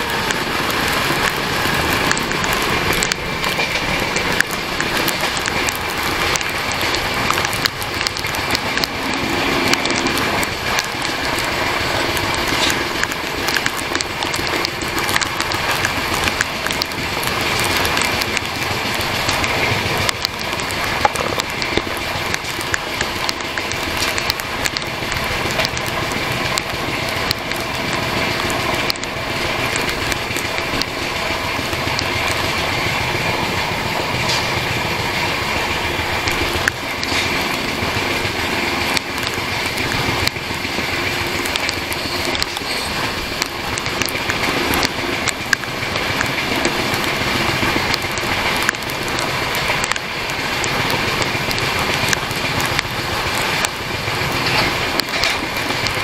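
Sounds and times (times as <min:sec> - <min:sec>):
rushing air: 0:00.0 - 0:56.0
small clicks from wheels and track: 0:00.0 - 0:56.0
train wheels on rails: 0:00.0 - 0:56.0.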